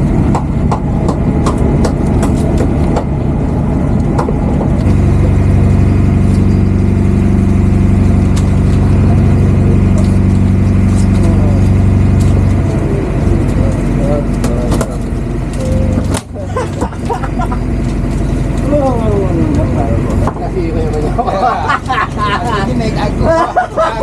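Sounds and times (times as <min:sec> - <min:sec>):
boat engine drone: 0:00.0 - 0:24.0.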